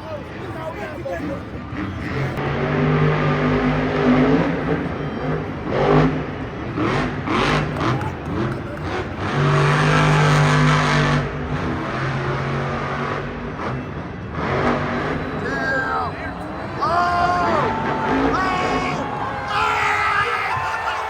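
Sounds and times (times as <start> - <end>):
monster truck engines revving: 0.0 - 21.0.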